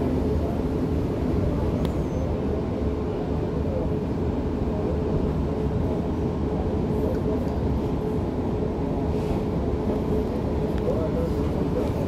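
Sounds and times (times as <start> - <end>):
train car hum and rumble: 0.0 - 12.0.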